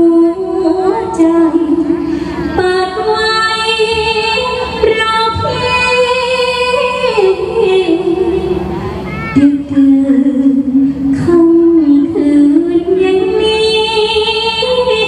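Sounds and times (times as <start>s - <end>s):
woman singing into a microphone: 0.0s - 8.8s, 9.4s - 15.0s.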